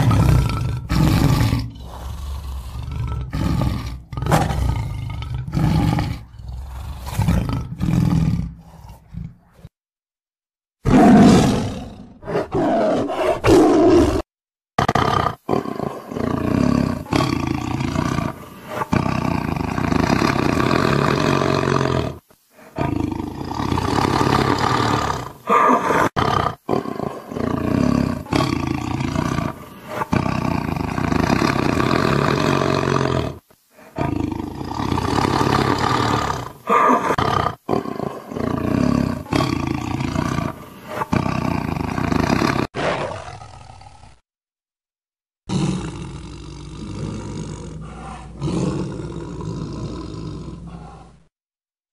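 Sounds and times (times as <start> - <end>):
tigers roaring: 0.0 - 9.5, 10.8 - 14.2, 14.8 - 44.1, 45.5 - 51.2.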